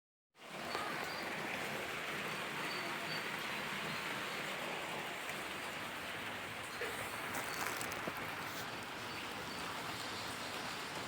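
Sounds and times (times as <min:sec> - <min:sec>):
raindrops pattering: 0:00.4 - 0:11.0
steady rain: 0:00.4 - 0:11.0.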